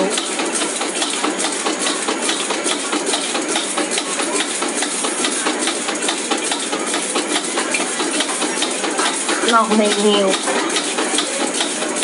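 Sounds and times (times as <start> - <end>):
wok clicking and rattling: 0.0 - 12.0.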